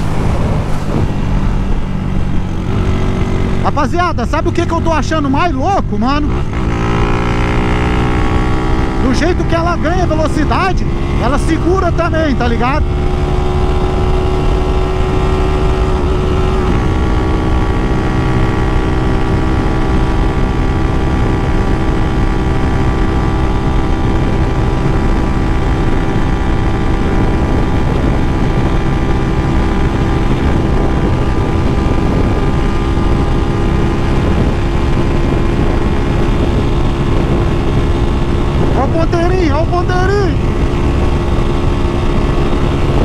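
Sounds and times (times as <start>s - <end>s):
motorcycle engine at high speed: 0.0s - 43.0s
wind rumble on microphone: 0.0s - 43.0s.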